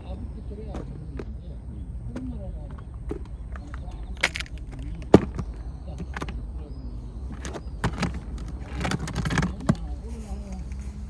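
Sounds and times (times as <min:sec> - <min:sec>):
sharp clicks and knocks: 0:00.0 - 0:10.1.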